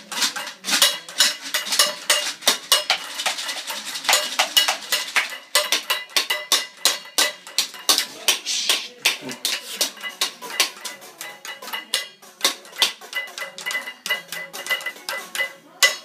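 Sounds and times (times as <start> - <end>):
sticks tapping toy xylophone: 0.0 - 16.0.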